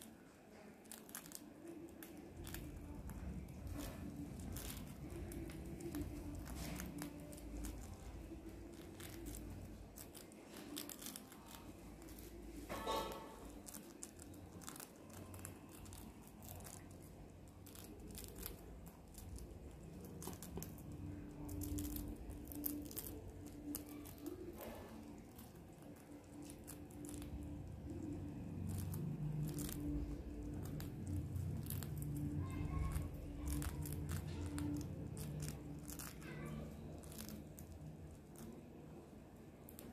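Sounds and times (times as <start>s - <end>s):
rats gnawing biscuit: 0.0s - 39.0s.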